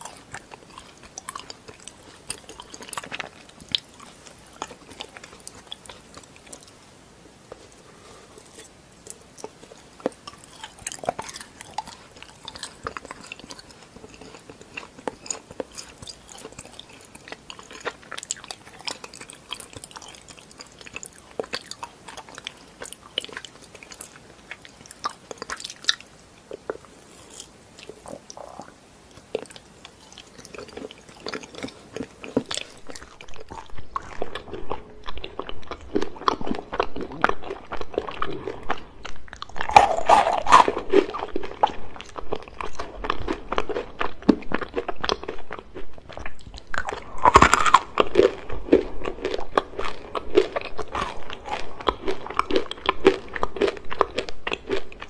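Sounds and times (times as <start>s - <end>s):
chewing small chocolates: 0.0s - 55.0s
chocolate snapping and crunching: 8.6s - 55.0s.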